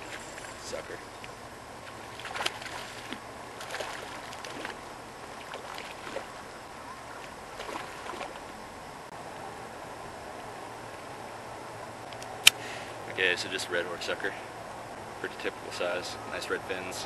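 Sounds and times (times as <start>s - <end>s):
outdoor hiss: 0.0s - 17.0s.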